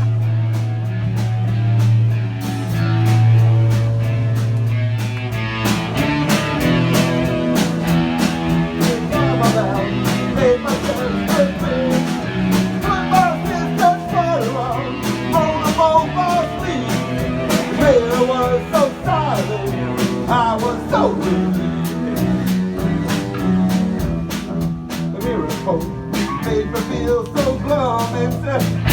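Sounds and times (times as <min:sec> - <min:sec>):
drums: 0:00.0 - 0:28.9
guitar chords: 0:00.0 - 0:28.9.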